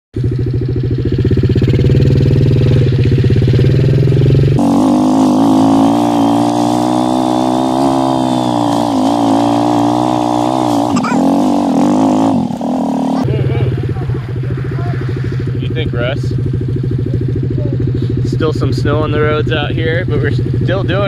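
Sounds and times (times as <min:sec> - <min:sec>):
motorcycle engine running: 0:00.2 - 0:21.0.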